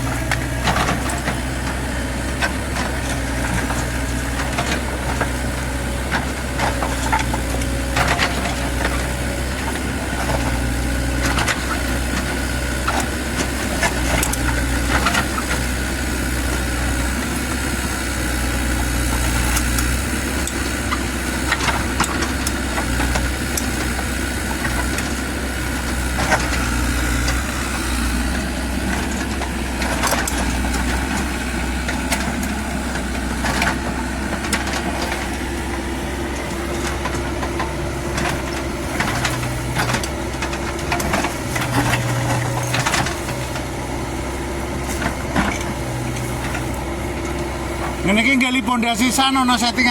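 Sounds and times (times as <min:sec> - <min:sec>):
digging knocks and clatter: 0:00.0 - 0:48.1
excavator diesel engine running: 0:00.0 - 0:49.9.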